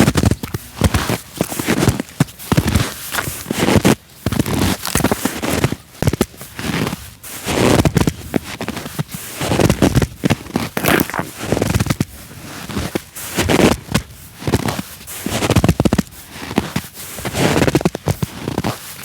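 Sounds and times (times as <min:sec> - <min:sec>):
footsteps crunching in snow: 0:00.0 - 0:19.0.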